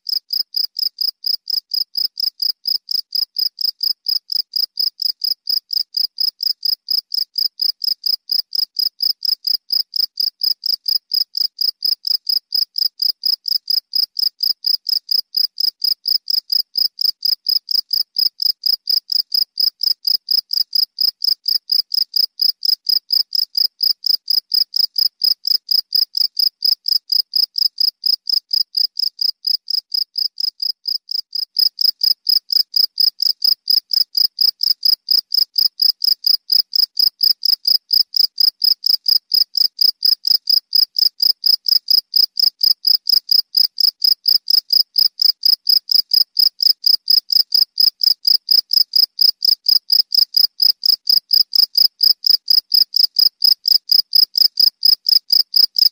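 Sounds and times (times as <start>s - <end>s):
cricket chirping: 0.1s - 55.9s.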